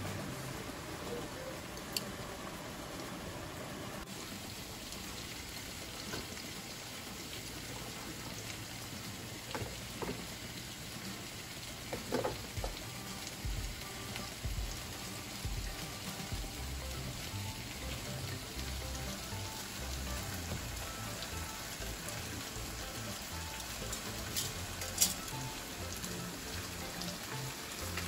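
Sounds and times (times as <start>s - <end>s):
water boiling and bubbling: 0.0s - 28.0s.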